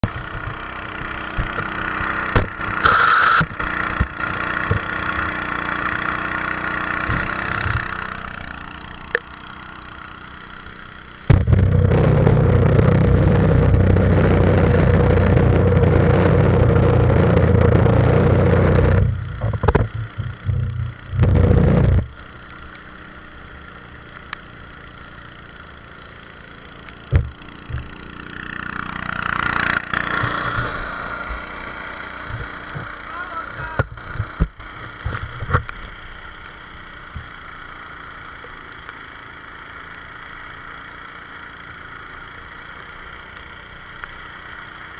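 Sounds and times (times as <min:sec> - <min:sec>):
small boat engine running: 0:00.0 - 0:44.9.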